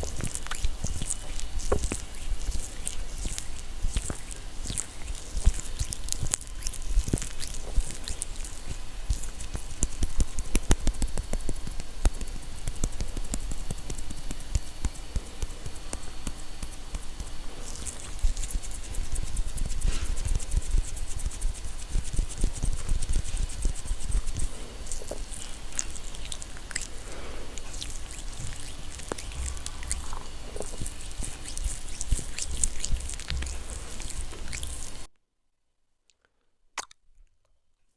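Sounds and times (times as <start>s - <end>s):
crackling and clicking: 0.0s - 35.1s
wet squishy touches: 0.0s - 35.1s.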